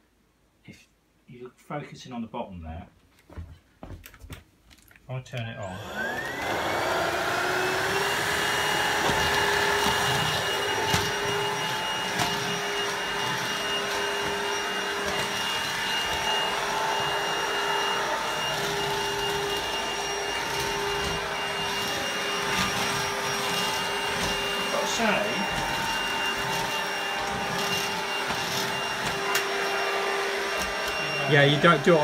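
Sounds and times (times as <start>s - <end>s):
stick vacuum motor whining: 5.6s - 32.0s.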